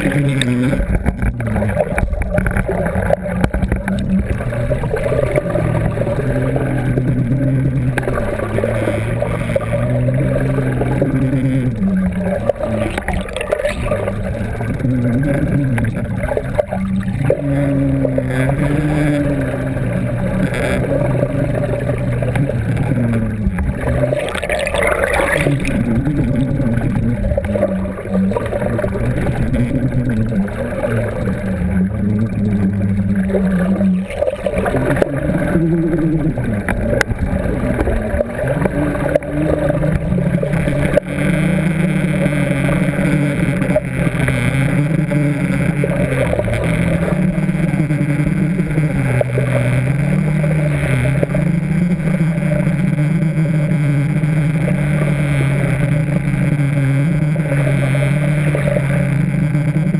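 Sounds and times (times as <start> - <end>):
low wavering hum: 0.0 - 59.9
water rushing underwater: 0.0 - 59.9.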